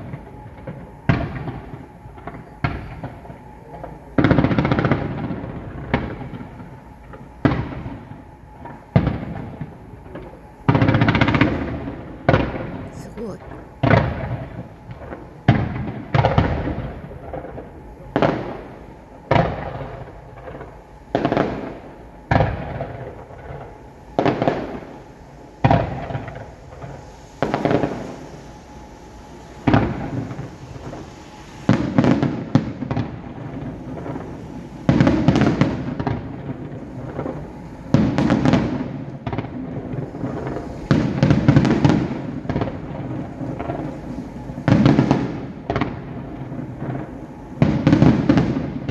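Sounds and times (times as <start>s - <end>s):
dense crackling firework bursts: 0.0s - 48.9s
firework bangs: 0.0s - 48.9s.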